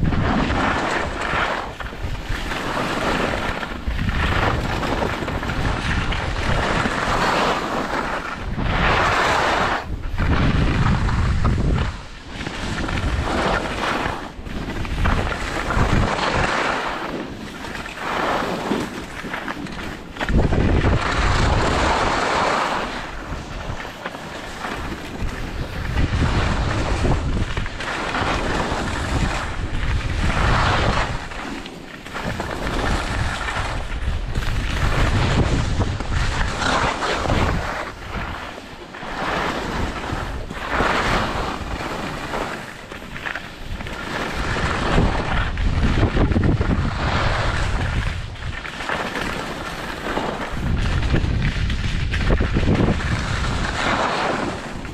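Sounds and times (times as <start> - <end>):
skis scraping over snow: 0.0 - 54.9
wind on microphone: 0.0 - 54.9.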